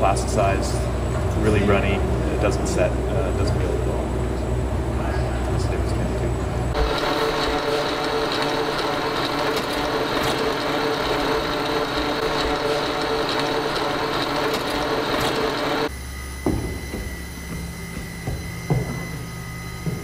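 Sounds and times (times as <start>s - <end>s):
mixer motor humming and whining: 0.0s - 20.0s.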